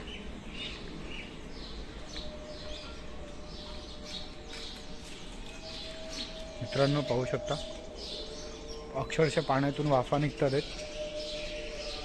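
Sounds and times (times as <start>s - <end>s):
low background noise: 0.0s - 12.0s
small birds chirping: 0.0s - 12.0s.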